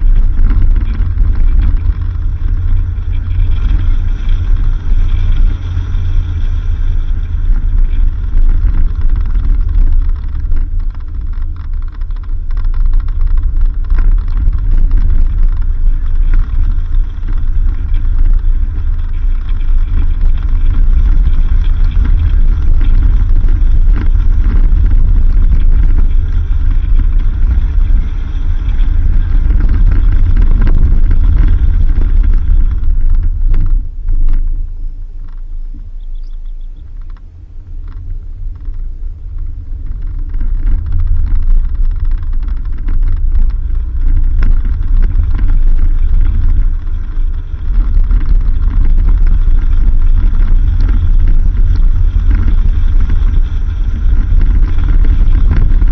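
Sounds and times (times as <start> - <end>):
vehicle driving on dirt road: 0.0 - 55.9.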